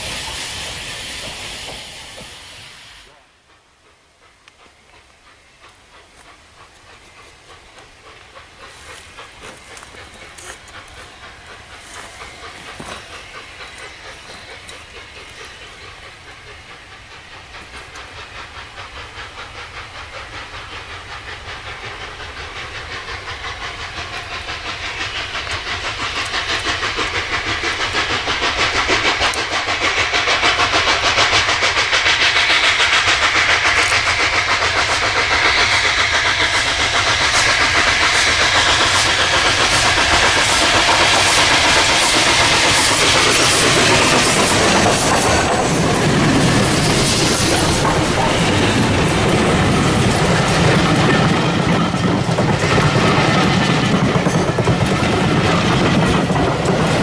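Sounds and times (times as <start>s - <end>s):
hissing steam: 0.0s - 57.0s
steam locomotive exhaust beats: 0.0s - 57.0s.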